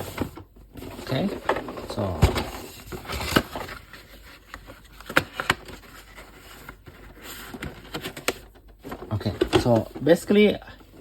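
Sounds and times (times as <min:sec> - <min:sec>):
packaging scraping and rustling: 0:00.0 - 0:10.6.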